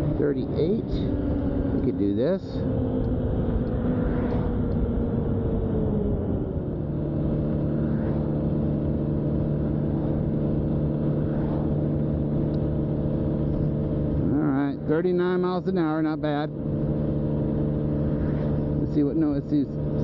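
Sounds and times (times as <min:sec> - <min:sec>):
scooter engine at full throttle: 0:00.0 - 0:20.0
wind and road noise: 0:00.0 - 0:20.0.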